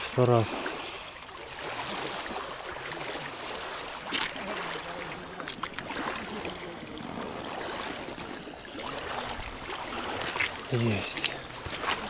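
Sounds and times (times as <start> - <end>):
short sharp splashes: 0.0 - 12.0
water lapping: 0.0 - 12.0.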